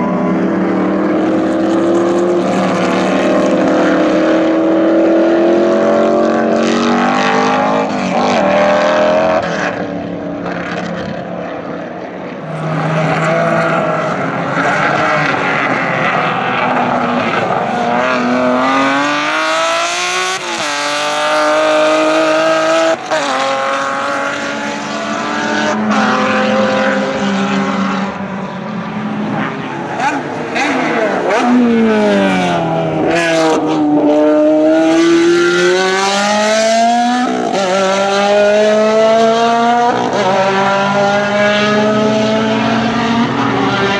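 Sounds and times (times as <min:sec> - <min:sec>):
racing car engines revving: 0:00.0 - 0:43.9.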